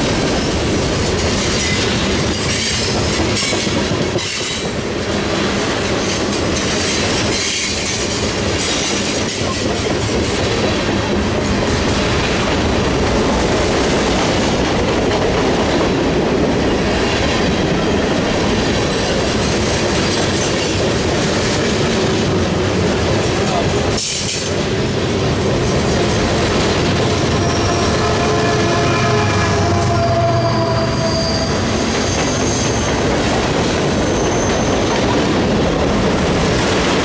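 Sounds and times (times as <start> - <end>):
freight train wheels rattling on rails: 0.0 - 37.0.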